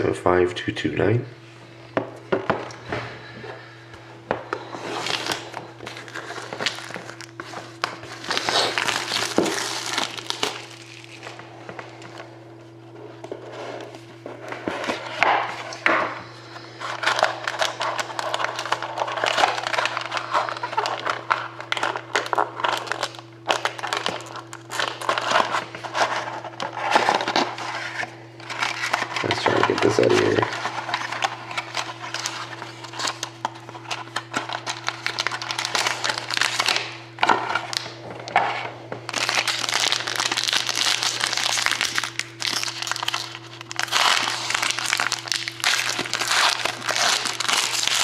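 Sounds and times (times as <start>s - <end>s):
steady low hum: 0.0s - 48.0s
plastic wrap tearing and crinkling: 4.6s - 12.2s, 16.7s - 48.0s.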